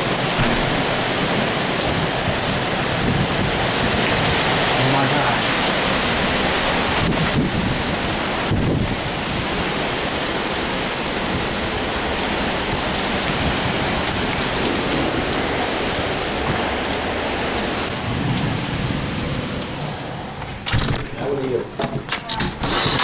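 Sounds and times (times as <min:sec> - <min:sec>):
heavy rain: 0:00.0 - 0:23.0
strong wind: 0:00.0 - 0:23.0.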